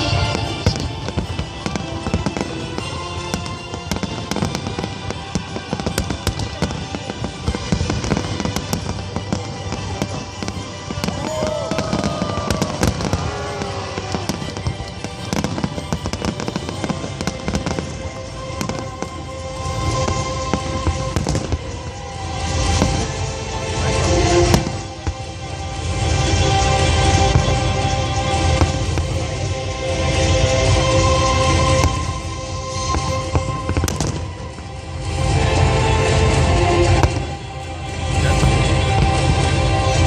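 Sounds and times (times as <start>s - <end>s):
fireworks bangs and crackles: 0.0s - 40.0s
music playing: 0.0s - 40.0s.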